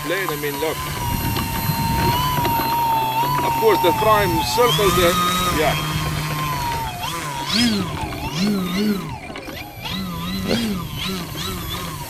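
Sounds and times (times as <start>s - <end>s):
model airplane motor whine: 0.0s - 12.0s.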